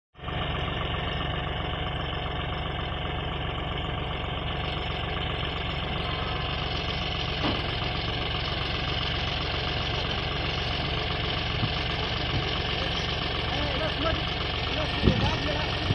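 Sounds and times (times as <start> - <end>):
tractor diesel engine idling: 0.2 - 15.9.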